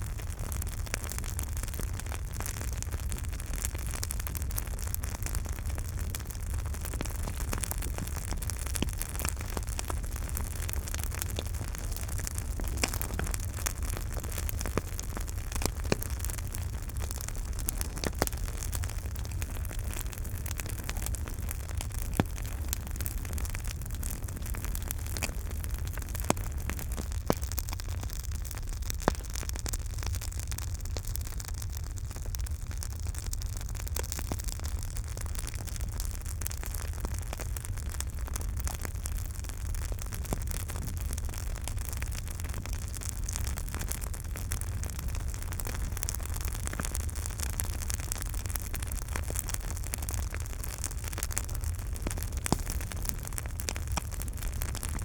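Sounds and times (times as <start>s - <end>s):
campfire crackling: 0.0s - 55.0s
fire popping: 0.0s - 55.0s.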